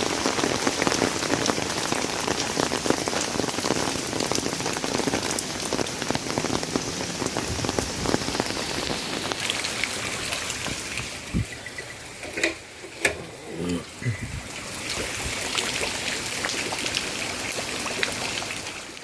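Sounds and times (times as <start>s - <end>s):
heavy rain on hard surfaces: 0.0s - 19.0s.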